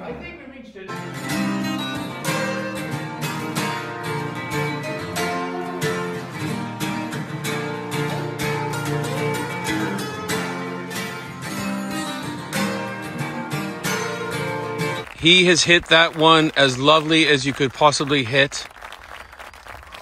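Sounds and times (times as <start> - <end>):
acoustic guitars strumming chords: 0.9 - 17.4.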